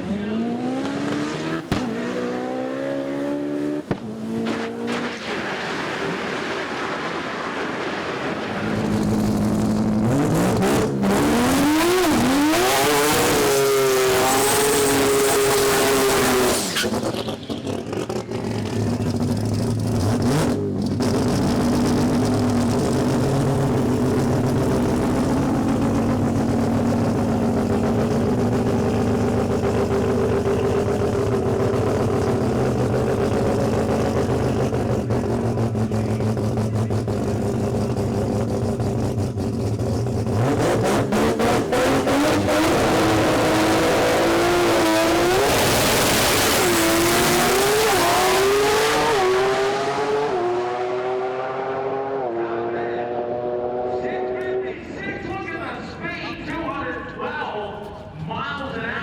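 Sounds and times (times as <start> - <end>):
drag racing car engine: 0.0 - 58.8.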